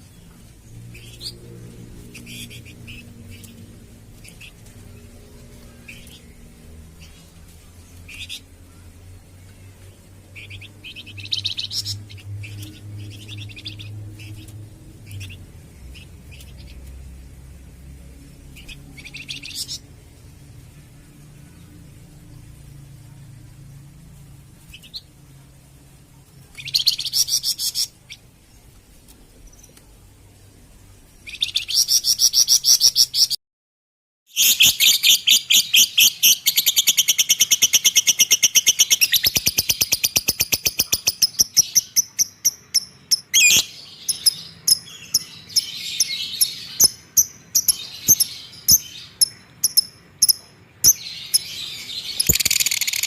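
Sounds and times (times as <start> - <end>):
cage bird chirping: 0.0 - 33.4, 34.3 - 53.0.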